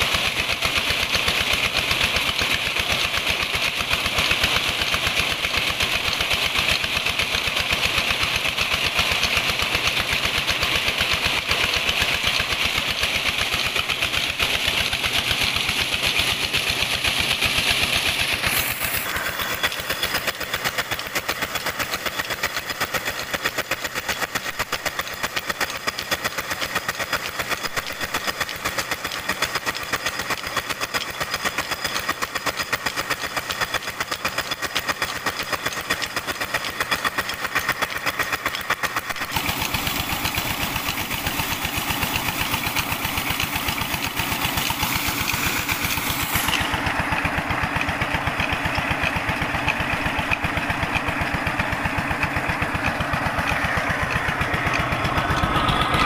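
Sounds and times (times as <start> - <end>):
diesel engine running: 8.9 - 56.0.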